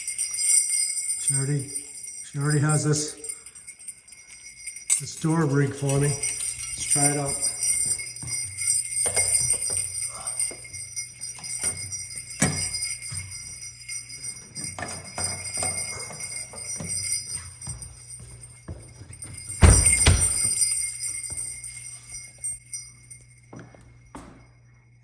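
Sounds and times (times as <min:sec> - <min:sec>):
sleigh bells jingling: 0:00.0 - 0:25.0.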